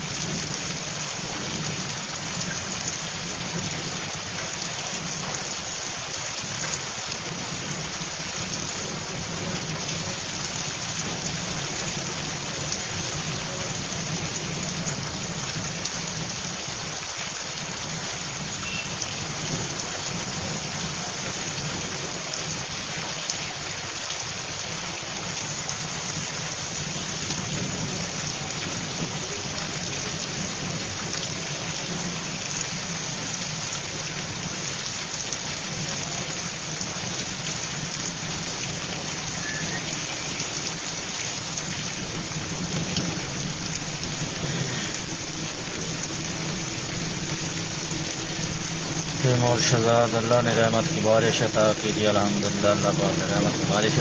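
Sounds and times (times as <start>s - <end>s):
heavy rain on wet pavement: 0.0s - 54.0s.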